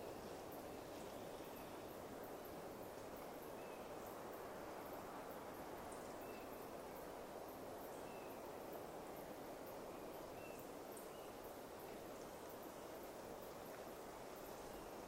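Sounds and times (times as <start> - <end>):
soft forest rush: 0.0 - 15.0.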